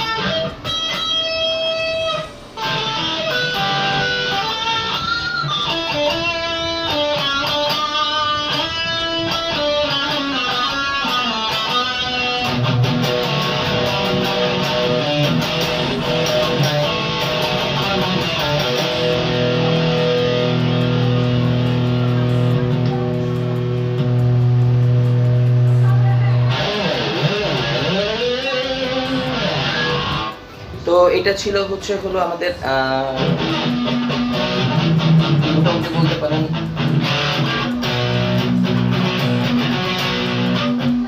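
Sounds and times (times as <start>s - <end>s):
solo guitar melody: 0.0s - 30.8s, 33.0s - 41.0s.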